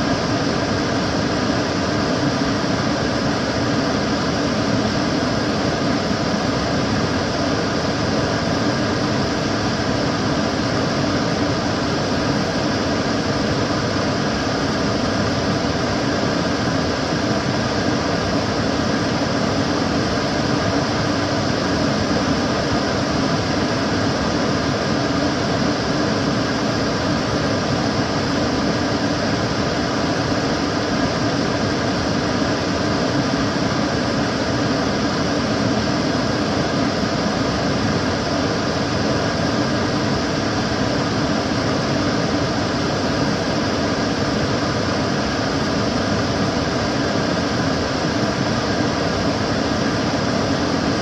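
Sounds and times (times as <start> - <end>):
extractor fan running: 0.0 - 51.0.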